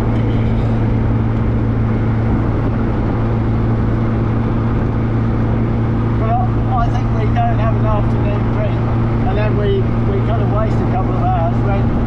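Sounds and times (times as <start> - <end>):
car engine drone: 0.0 - 12.0
road and wind noise: 0.0 - 12.0.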